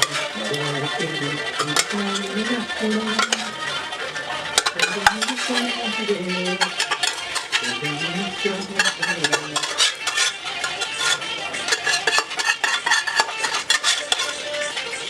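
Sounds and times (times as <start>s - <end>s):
spoon scraping a cooking pot: 0.0s - 15.0s.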